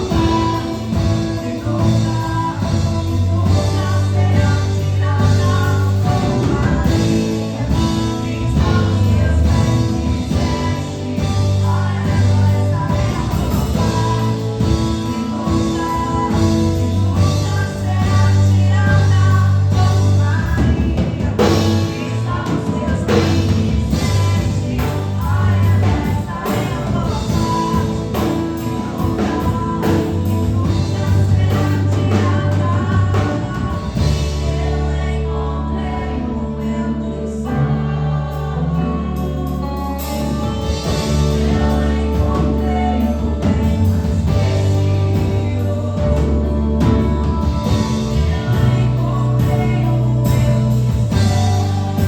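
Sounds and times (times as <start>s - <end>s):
steady drum beat: 0.0s - 36.1s, 38.5s - 52.0s
band playing: 0.0s - 52.0s
held bass notes: 0.0s - 52.0s
voices singing worship song: 0.0s - 52.0s.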